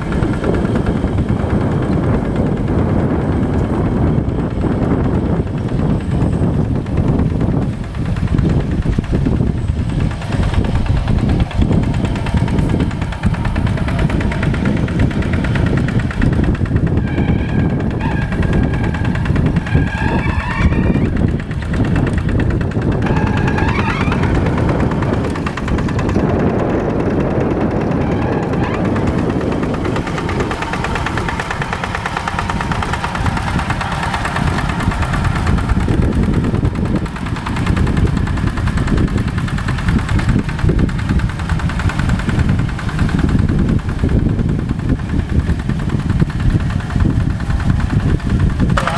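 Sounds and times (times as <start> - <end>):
diesel tractor engine pulsing: 0.0 - 48.9.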